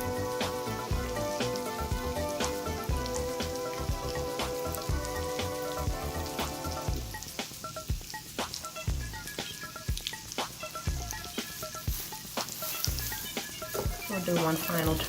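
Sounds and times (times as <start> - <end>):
background music: 0.0 - 15.0
oil sizzling in a pan: 0.0 - 15.0.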